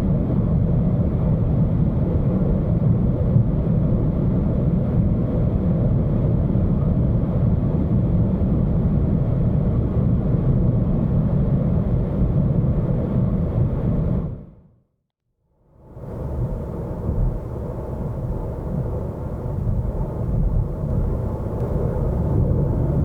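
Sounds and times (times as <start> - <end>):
wind noise: 0.0 - 14.6, 15.8 - 23.0.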